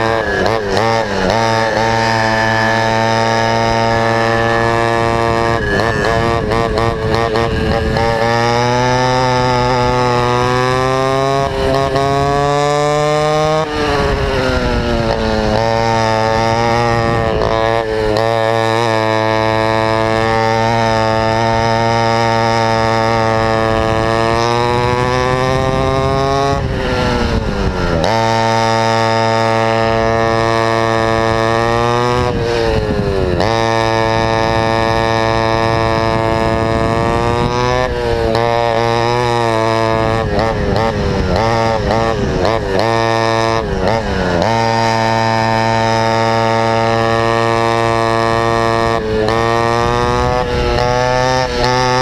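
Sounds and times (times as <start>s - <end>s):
go-kart engine at full throttle: 0.0s - 52.0s.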